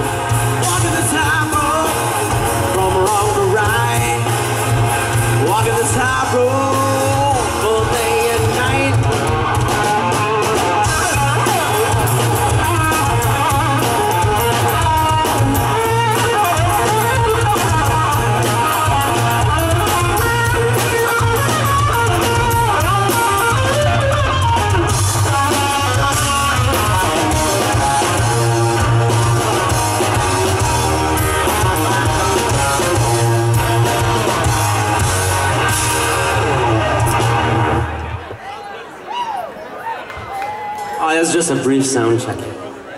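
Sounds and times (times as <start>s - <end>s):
drum kit: 0.0s - 38.2s
electric guitars: 0.0s - 38.4s.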